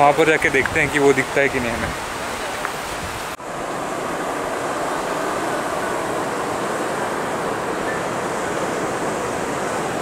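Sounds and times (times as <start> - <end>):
small waves washing in shallow water: 0.0 - 10.0.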